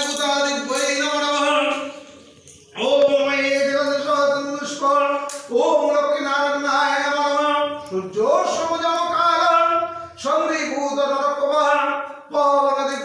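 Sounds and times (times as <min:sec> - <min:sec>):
man chanting: 0:00.0 - 0:02.0, 0:02.7 - 0:13.0.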